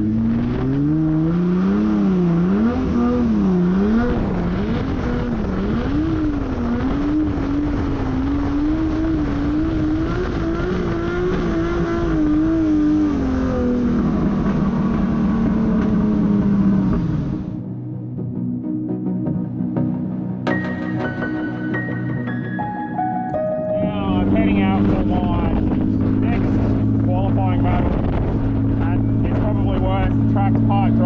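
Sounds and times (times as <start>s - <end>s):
car engine revving: 0.0s - 17.7s, 19.7s - 31.0s.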